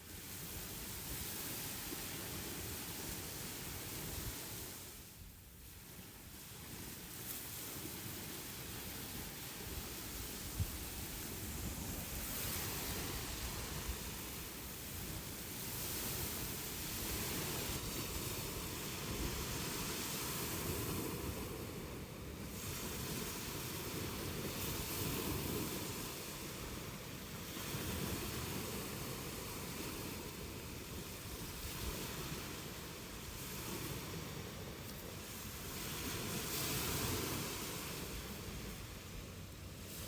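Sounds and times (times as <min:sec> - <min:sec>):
waves washing on shore: 0:00.0 - 0:40.0.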